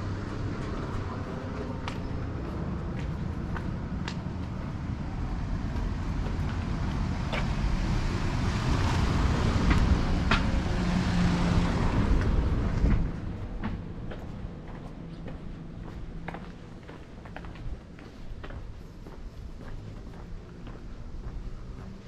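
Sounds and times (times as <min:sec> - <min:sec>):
vehicle passing by: 0:00.0 - 0:17.0, 0:19.6 - 0:22.0.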